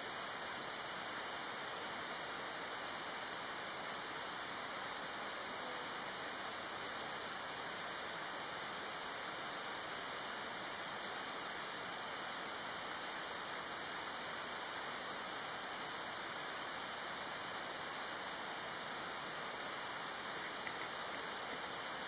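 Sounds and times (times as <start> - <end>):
forest background hiss: 0.0 - 22.0.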